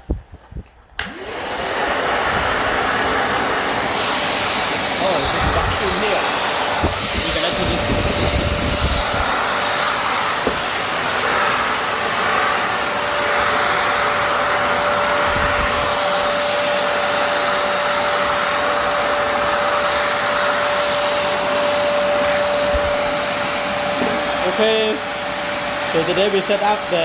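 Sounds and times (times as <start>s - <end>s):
vacuum cleaner whining: 0.0s - 27.0s.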